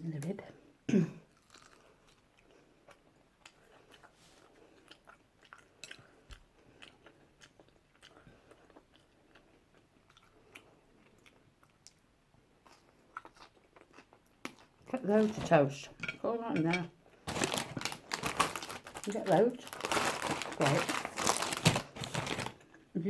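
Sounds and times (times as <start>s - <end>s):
person chewing food: 1.3s - 15.0s, 17.1s - 22.9s.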